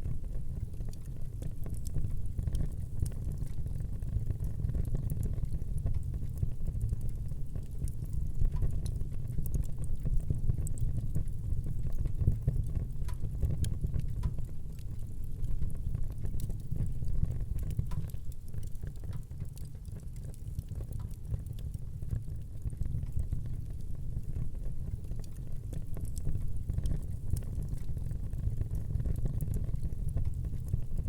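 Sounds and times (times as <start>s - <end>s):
fire crackles and pops: 0.0s - 31.0s.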